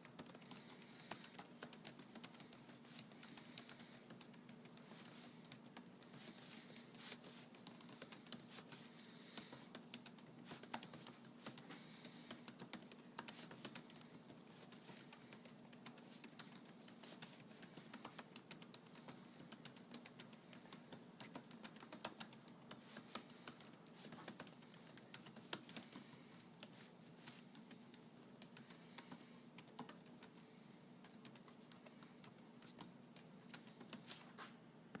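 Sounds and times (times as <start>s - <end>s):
computer keyboard typing: 0.0s - 34.2s
steady low hum: 0.0s - 35.0s.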